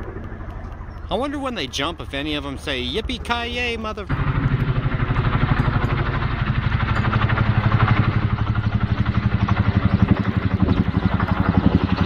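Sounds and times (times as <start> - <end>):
helicopter engine and turbine: 0.0 - 12.0
helicopter rotor beat: 0.0 - 12.0.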